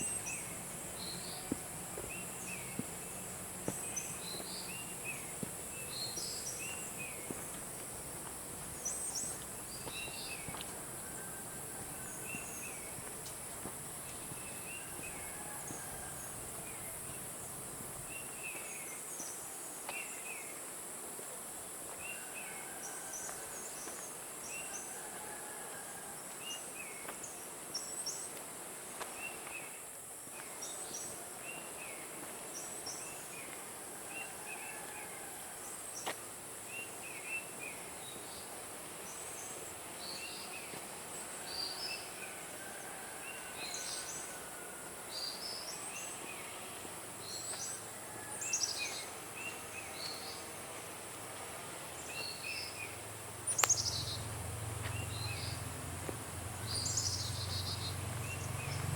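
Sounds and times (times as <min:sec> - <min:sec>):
high insect drone: 0:00.0 - 0:25.6, 0:35.4 - 0:58.9.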